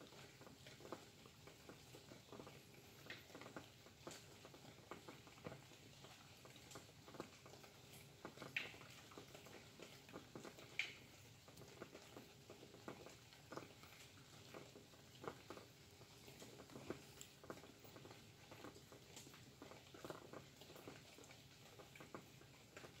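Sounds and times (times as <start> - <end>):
raindrops tapping: 0.0 - 23.0.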